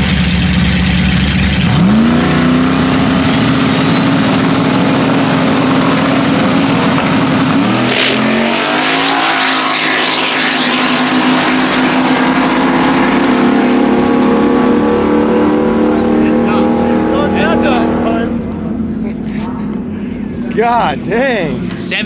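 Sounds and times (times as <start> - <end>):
drag racing engine at full throttle: 0.0 - 18.9.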